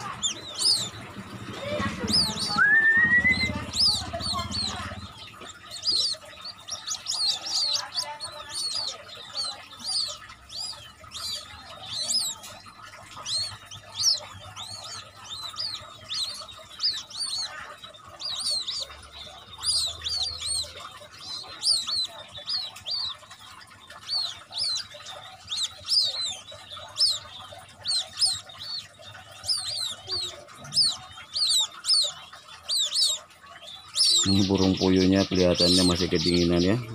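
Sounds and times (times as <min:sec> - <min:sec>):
chicks peeping: 0:00.0 - 0:36.9.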